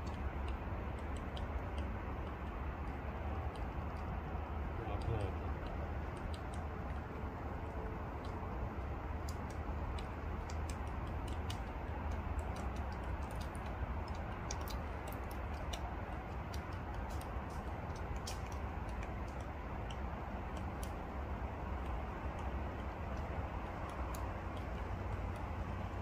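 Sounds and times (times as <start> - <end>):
low background rumble: 0.0 - 26.0
woodpecker tapping on wood: 0.0 - 26.0.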